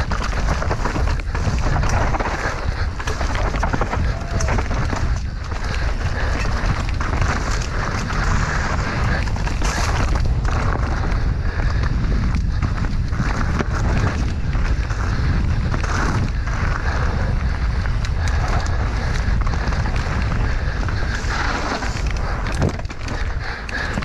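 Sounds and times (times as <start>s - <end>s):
bike knocks and rattles: 0.0s - 24.0s
wind buffeting microphone: 0.0s - 24.0s.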